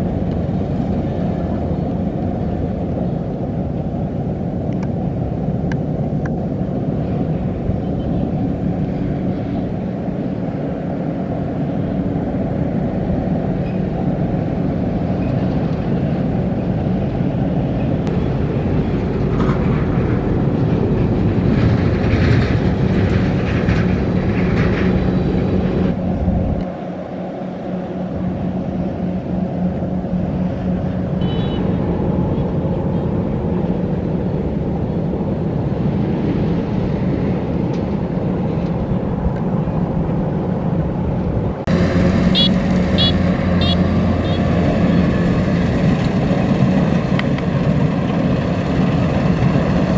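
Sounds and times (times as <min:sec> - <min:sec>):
combine harvester diesel engine running: 0:00.0 - 0:36.3, 0:40.7 - 0:49.9.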